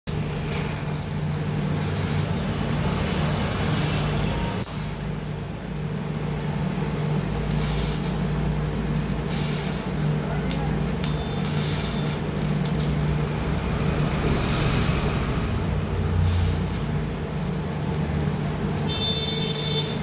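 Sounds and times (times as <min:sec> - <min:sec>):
welding arc buzzing: 0:00.1 - 0:20.0
welding hiss: 0:00.4 - 0:05.6, 0:06.4 - 0:20.0.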